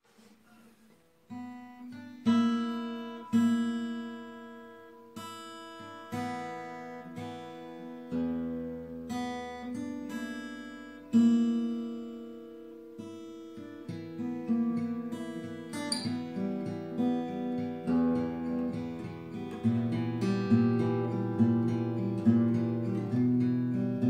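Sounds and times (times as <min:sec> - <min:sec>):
fingerpicked acoustic guitar: 0:00.0 - 0:24.0.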